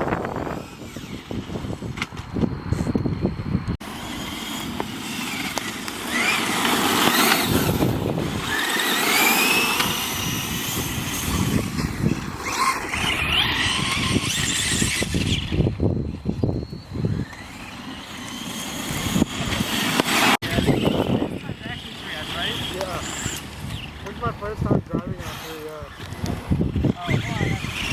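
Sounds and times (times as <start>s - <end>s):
rc car motor whine: 0.0s - 27.9s
tyres on gravel: 3.8s - 15.8s, 16.9s - 27.9s.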